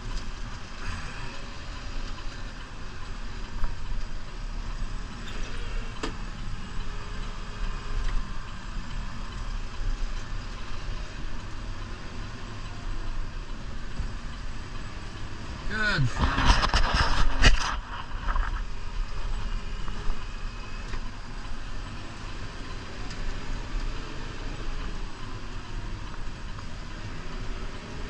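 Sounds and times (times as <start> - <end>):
tractor engine running under load: 0.0 - 28.0.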